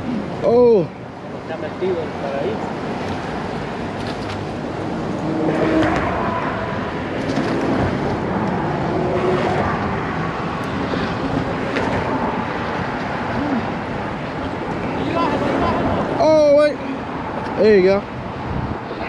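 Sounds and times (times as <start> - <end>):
cars driving over bridge: 0.0 - 19.0.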